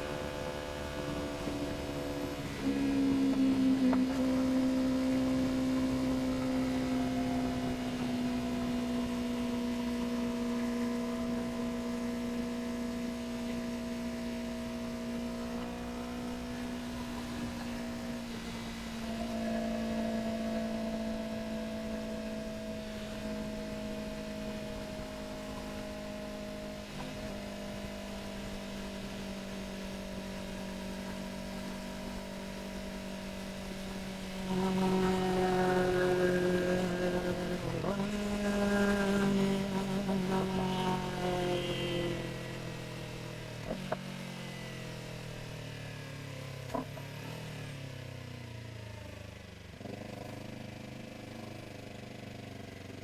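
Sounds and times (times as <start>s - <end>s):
motorcycle engine droning: 0.0s - 53.0s.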